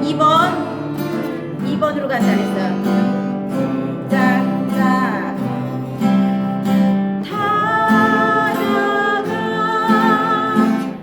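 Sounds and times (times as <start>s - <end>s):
person singing: 0.0s - 6.6s, 7.2s - 11.0s
acoustic guitar strumming: 0.0s - 11.0s.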